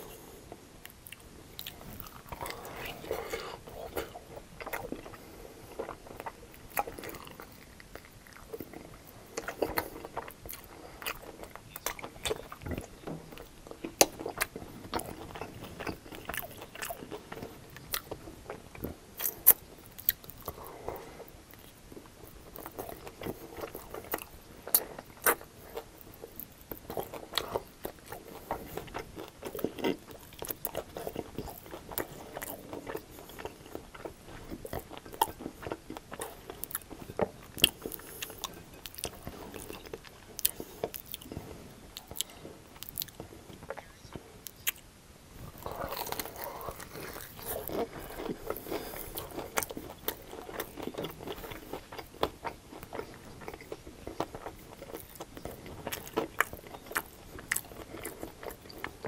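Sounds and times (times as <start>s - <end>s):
biting and chewing: 0.0s - 44.8s, 45.4s - 59.0s.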